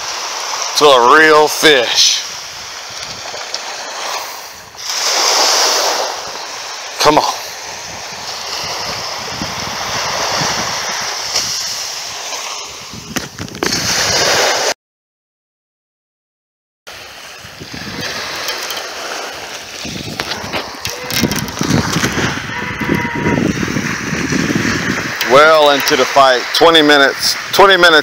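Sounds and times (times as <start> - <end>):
ocean surf washing on beach: 0.0 - 14.8, 16.9 - 28.0.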